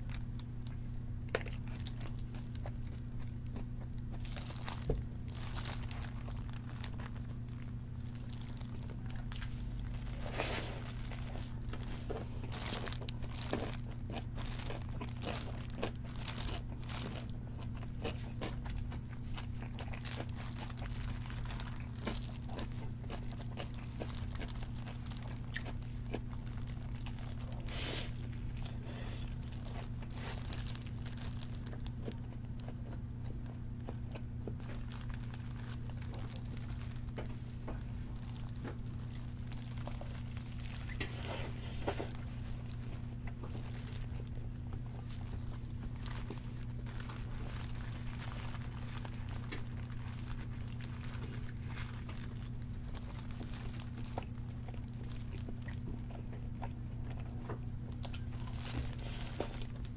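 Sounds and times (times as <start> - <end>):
fried chicken crunching: 0.0 - 59.9
steady low hum: 0.0 - 59.9
plastic glove crinkling: 1.4 - 2.8, 4.2 - 18.0, 19.2 - 32.0, 34.6 - 55.7, 57.9 - 59.9.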